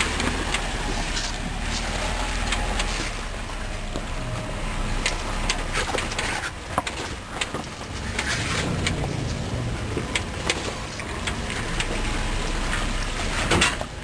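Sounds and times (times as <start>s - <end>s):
low engine rumble: 0.0s - 14.0s
tyres crunching on stones: 0.0s - 14.0s.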